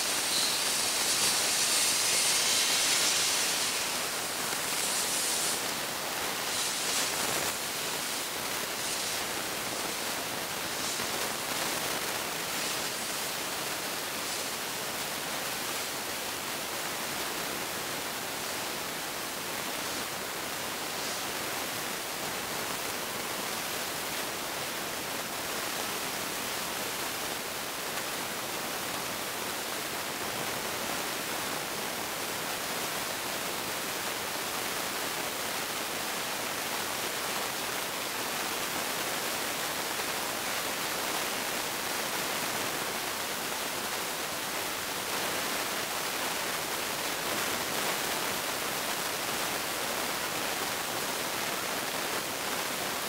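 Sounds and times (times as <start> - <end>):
steady bright hiss: 0.0 - 53.0.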